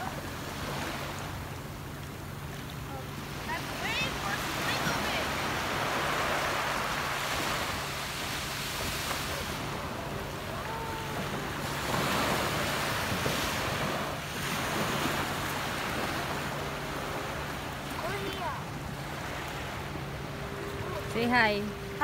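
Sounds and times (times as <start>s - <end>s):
small waves washing up a beach: 0.0s - 22.0s.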